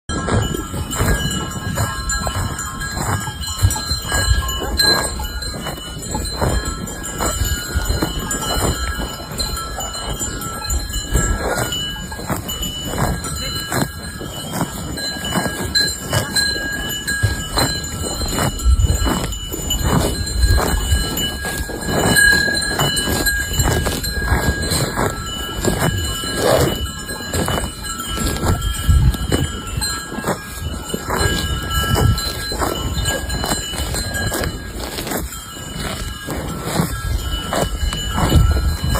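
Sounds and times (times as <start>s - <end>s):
cow bells clanking: 0.1s - 38.9s.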